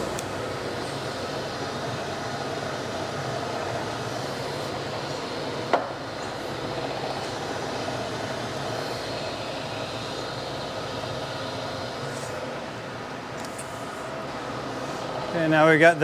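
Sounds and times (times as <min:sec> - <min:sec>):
grinder machine humming: 0:00.0 - 0:16.0.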